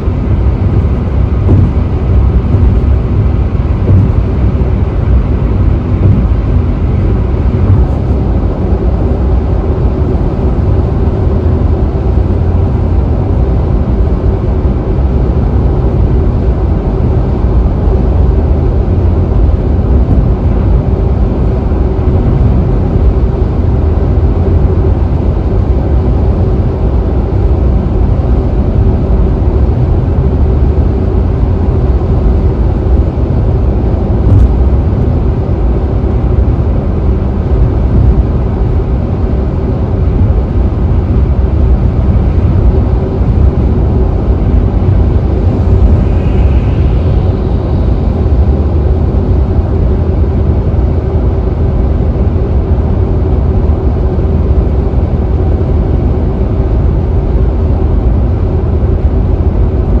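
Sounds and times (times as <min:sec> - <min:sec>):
tyre and road noise in car: 0:00.0 - 1:00.0.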